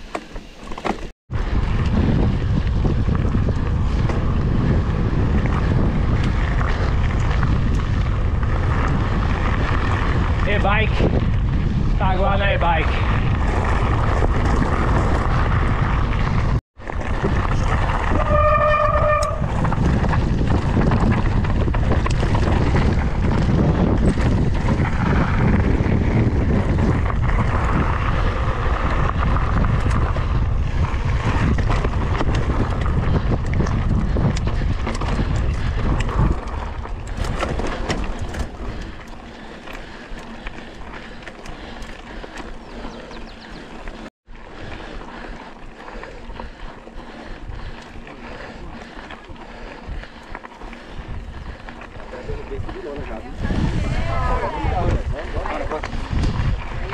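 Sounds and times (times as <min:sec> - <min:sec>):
bike rattling over dirt: 0:00.0 - 0:56.9
wind buffeting microphone: 0:01.3 - 0:56.9.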